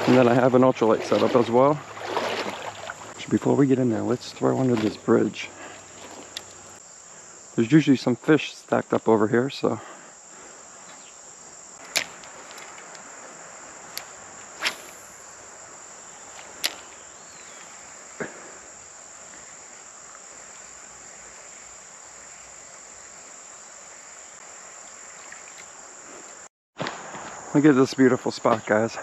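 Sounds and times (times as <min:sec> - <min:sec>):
crickets droning: 0:00.0 - 0:29.0.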